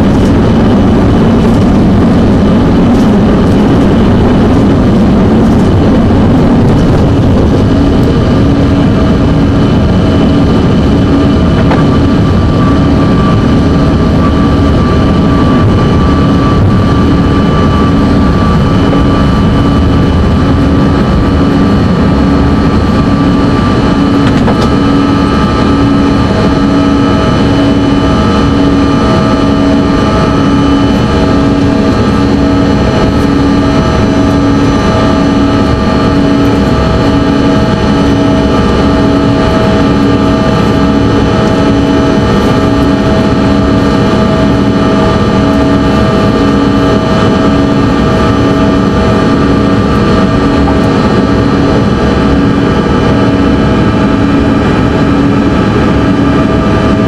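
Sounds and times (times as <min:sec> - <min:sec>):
jet engine drone: 0:00.0 - 0:57.0
rushing air: 0:00.0 - 0:57.0
steady whine: 0:00.0 - 0:57.0
throbbing low hum: 0:00.0 - 0:57.0.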